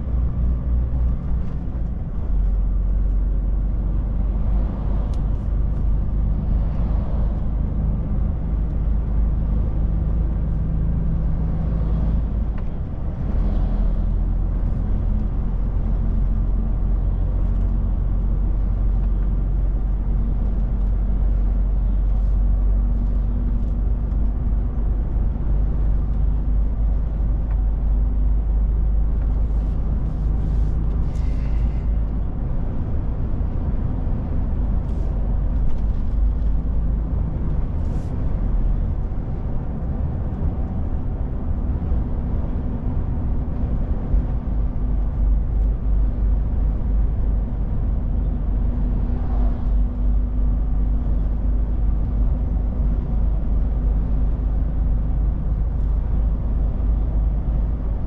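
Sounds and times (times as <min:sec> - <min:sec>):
road and tyre noise: 0:00.0 - 0:58.0
truck engine drone: 0:00.0 - 0:58.0.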